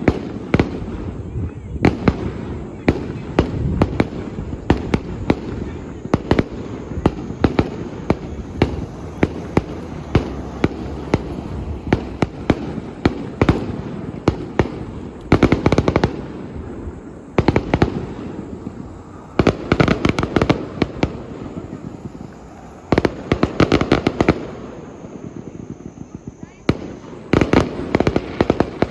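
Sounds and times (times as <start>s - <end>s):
fireworks bangs: 0.0s - 28.9s
fireworks crackling: 0.0s - 28.9s.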